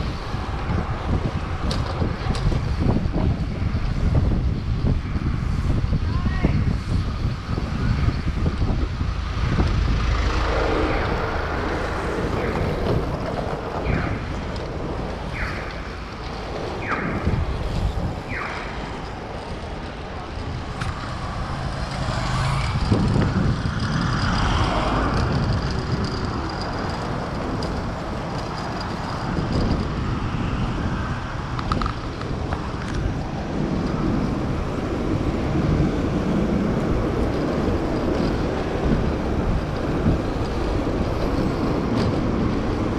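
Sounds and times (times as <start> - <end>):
street traffic: 0.0 - 42.9
wind rushing: 0.0 - 42.9.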